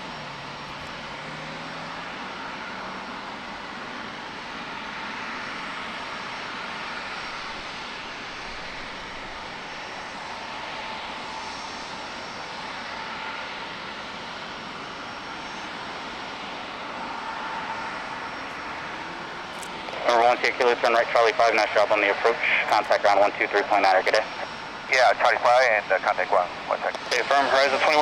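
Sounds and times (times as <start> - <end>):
faint high engine whine: 0.0 - 28.0
jet engines hiss and rumble: 0.0 - 28.0.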